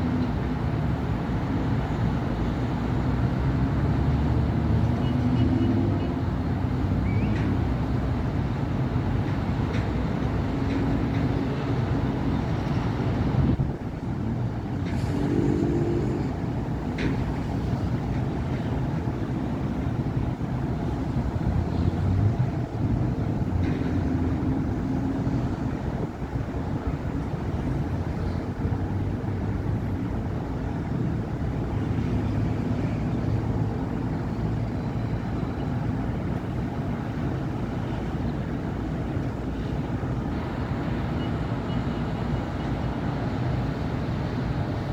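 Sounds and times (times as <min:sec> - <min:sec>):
traffic passing: 0:00.0 - 0:44.9.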